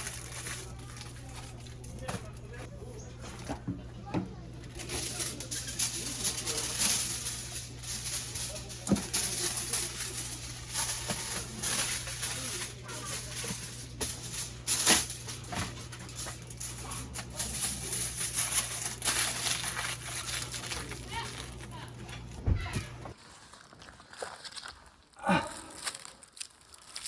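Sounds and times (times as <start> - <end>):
wood fire crackling and popping: 0.0 - 23.2.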